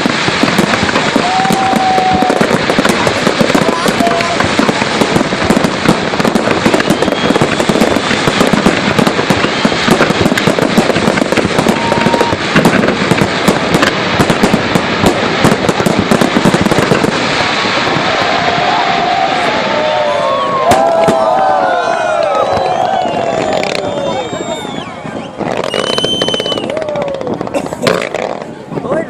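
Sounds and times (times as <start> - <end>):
fireworks cracks and bangs: 0.0 - 29.0.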